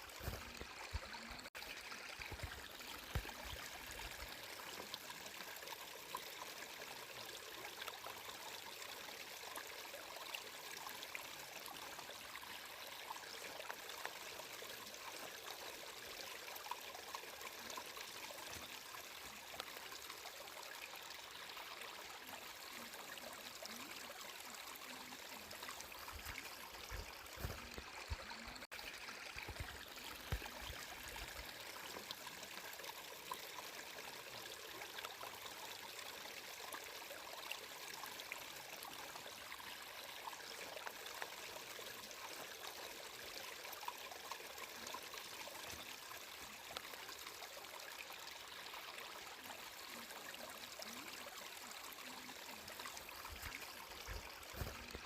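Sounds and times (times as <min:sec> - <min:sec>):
water trickling with splashes: 0:00.0 - 0:55.0.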